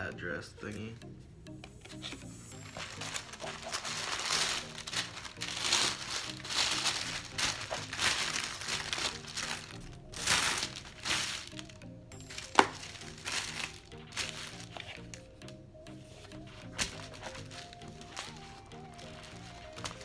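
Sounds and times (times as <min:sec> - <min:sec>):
music with low bass line: 0:00.0 - 0:20.0
plastic and paper crinkling: 0:01.9 - 0:20.0.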